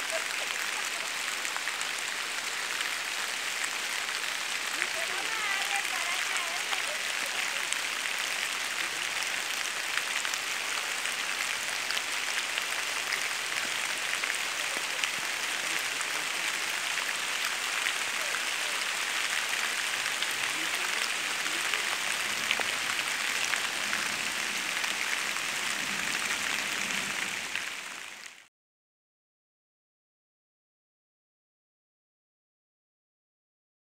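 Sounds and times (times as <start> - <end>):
rain falling on leaves: 0.0 - 28.5.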